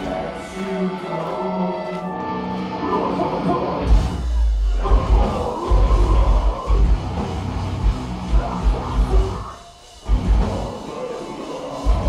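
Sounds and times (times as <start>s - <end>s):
distorted guitars: 0.0s - 12.0s
metal band playing live: 0.0s - 12.0s.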